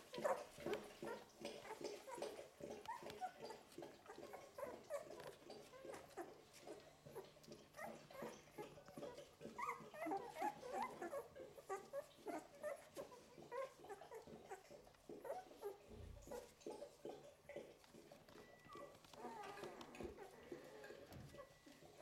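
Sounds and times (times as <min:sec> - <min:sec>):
puppies squeaking and whimpering: 0:00.0 - 0:22.0.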